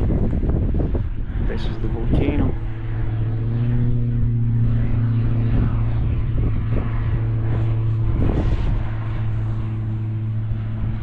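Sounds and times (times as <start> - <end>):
propeller plane droning: 0.0 - 11.0.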